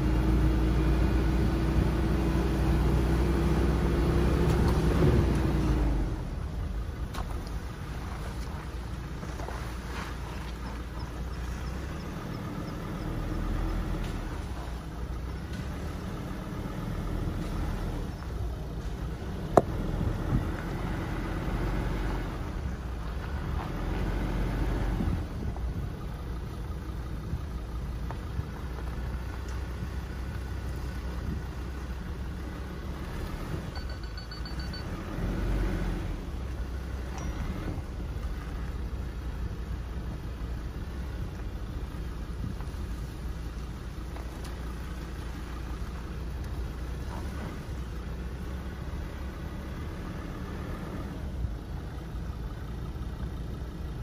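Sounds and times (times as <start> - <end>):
car rumbling on dirt road: 0.0 - 54.0.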